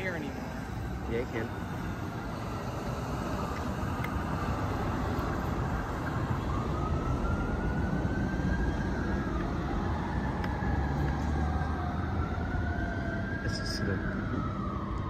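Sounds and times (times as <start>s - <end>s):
distant fire engine siren: 0.0s - 15.0s
traffic idling rumble: 0.0s - 15.0s.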